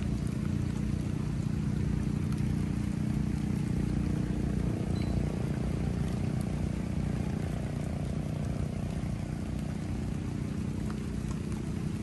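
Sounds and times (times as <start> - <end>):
distant motor droning: 0.0 - 12.0.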